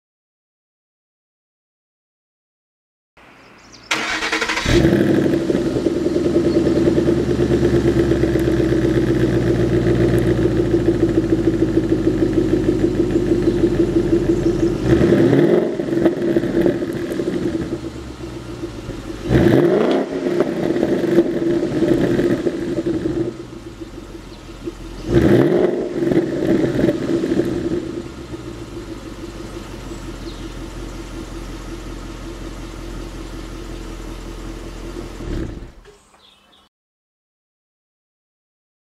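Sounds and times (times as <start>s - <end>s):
car engine idling and revving: 3.9s - 35.8s.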